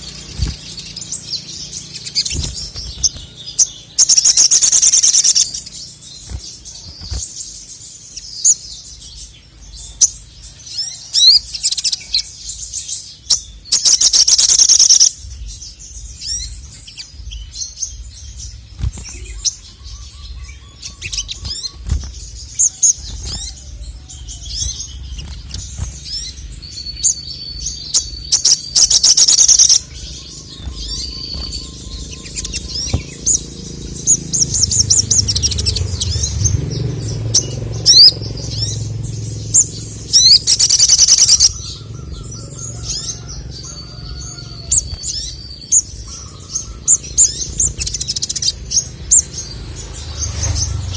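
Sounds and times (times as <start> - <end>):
bird rapid trilling: 0.0 - 50.9
sunbird chirping and twittering: 0.0 - 50.9.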